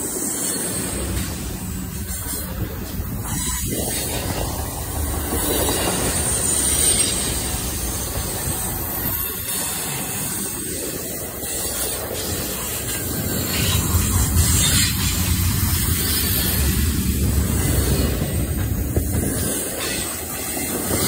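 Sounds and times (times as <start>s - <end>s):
steel wheels on rails: 0.0s - 21.0s.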